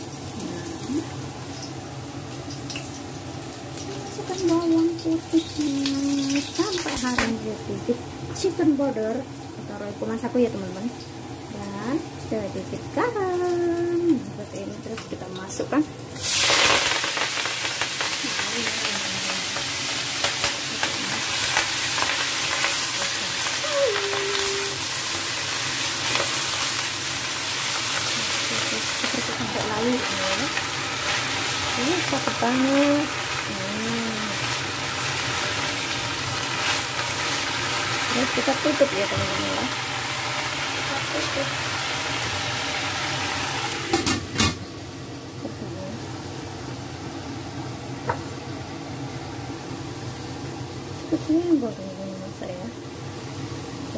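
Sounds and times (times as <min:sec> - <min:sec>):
greens sizzling in hot oil: 0:00.0 - 0:53.9.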